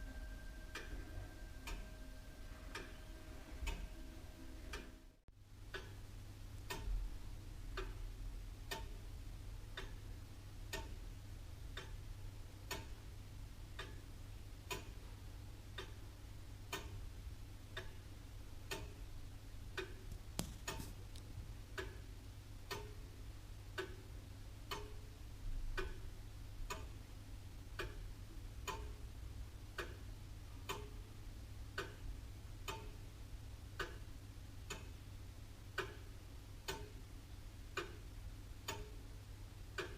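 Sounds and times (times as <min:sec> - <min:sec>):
clock ticking: 0:00.0 - 0:05.1, 0:05.7 - 0:06.0, 0:06.6 - 0:07.1, 0:07.7 - 0:39.9
faint low hum: 0:00.0 - 0:39.9.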